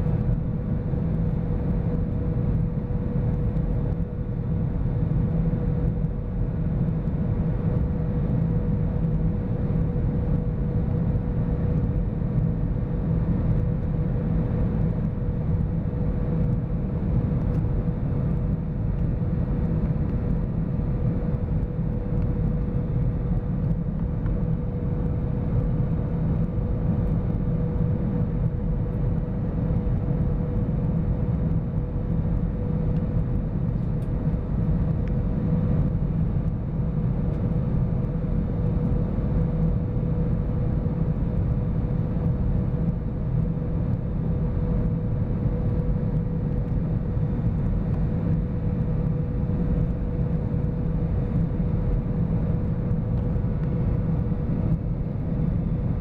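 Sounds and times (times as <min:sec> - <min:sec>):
airplane cabin rumble: 0:00.0 - 0:56.0
constant hum: 0:00.0 - 0:56.0.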